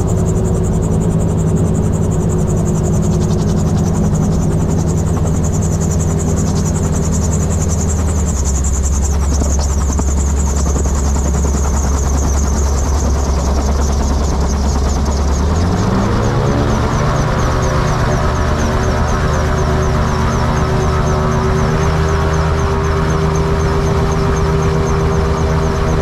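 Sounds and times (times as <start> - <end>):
propeller engine running: 0.0 - 26.0
spinning rotor noise: 0.0 - 26.0.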